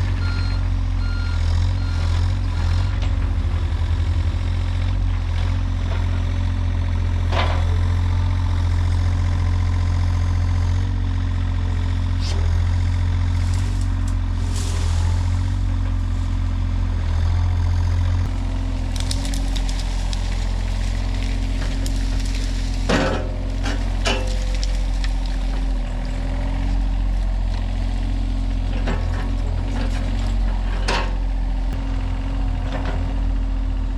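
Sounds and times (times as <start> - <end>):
large engine running steadily: 0.0 - 33.9.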